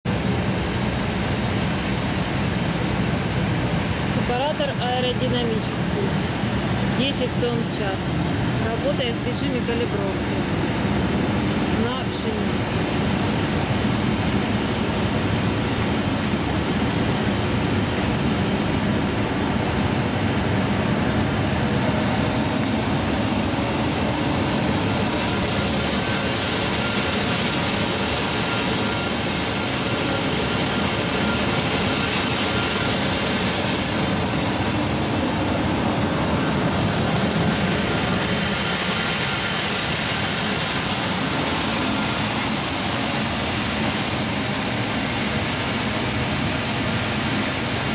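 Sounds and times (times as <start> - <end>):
grain separator running: 0.1 - 47.9.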